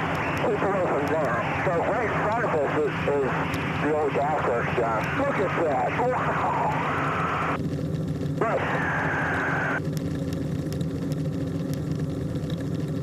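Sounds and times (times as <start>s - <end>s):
small aircraft engine drone: 0.0s - 13.0s.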